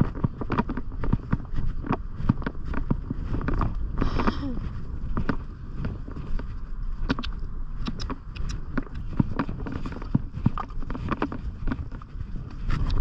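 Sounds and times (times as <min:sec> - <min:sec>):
pony hoofbeats at a walk: 0:00.0 - 0:13.0
wind rumbling on microphone: 0:00.0 - 0:13.0.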